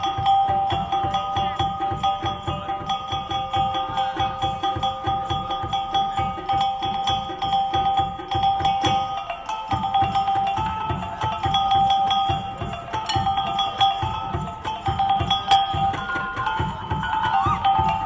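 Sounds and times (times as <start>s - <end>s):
metal mallet instruments ringing: 0.0s - 18.0s.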